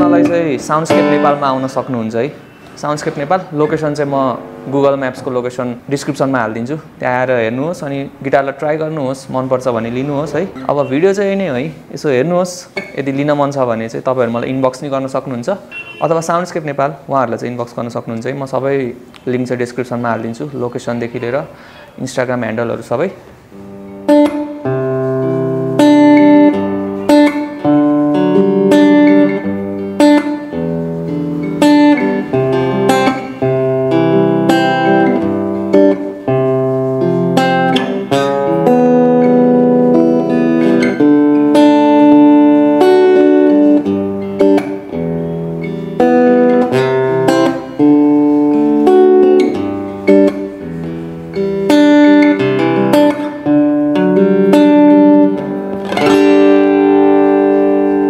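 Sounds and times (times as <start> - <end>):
fingerstyle guitar: 0.0 - 58.0.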